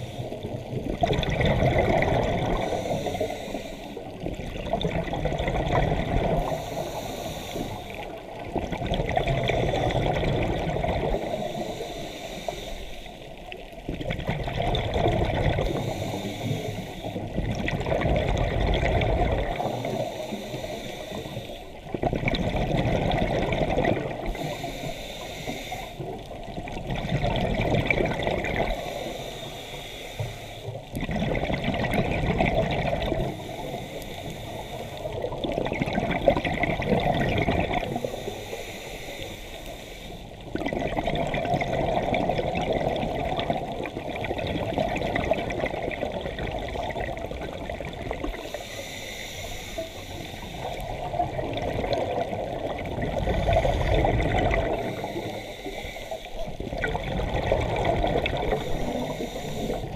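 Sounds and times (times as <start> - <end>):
scuba regulator breathing underwater: 0.0 - 13.7, 14.4 - 59.9
bubbling exhaled air: 0.0 - 29.6, 30.3 - 59.9.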